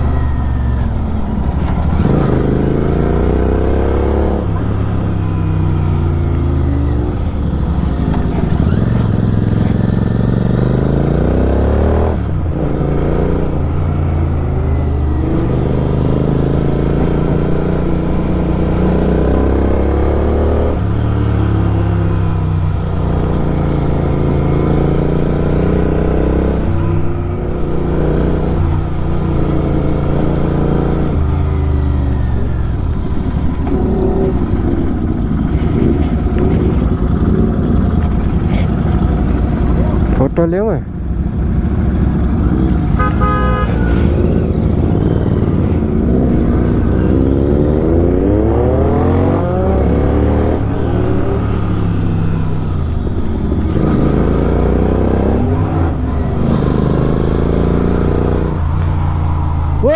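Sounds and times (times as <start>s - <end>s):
motorcycle accelerating through gears: 0.0s - 59.9s.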